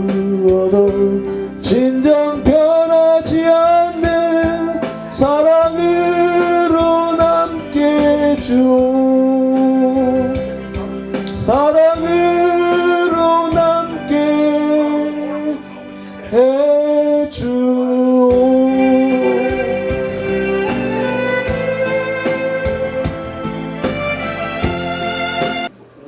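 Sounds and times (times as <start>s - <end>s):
person singing with accompaniment: 0.0s - 25.7s.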